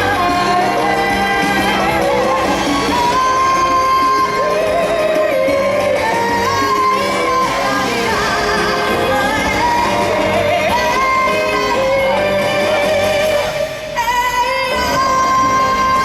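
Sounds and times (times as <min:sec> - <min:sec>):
dance music with sung melody: 0:00.0 - 0:16.0.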